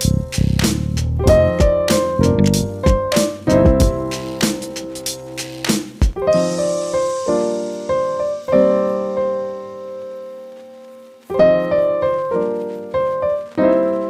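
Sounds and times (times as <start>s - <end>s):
piano chords ringing: 1.2s - 14.0s.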